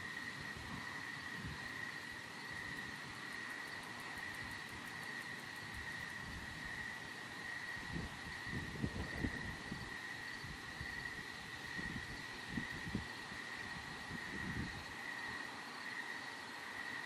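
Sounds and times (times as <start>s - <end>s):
wind rumble on microphone: 0.0s - 15.4s
insects trilling: 0.0s - 17.0s.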